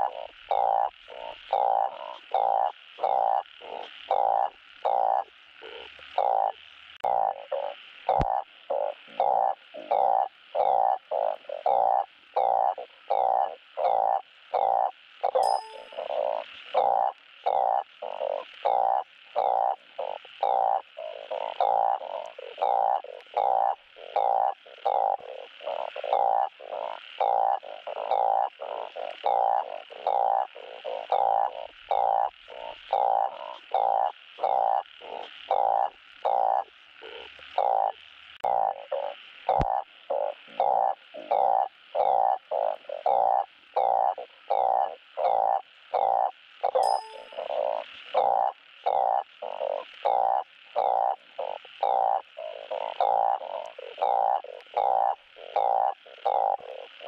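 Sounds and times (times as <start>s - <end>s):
frogs croaking: 0.0s - 57.0s.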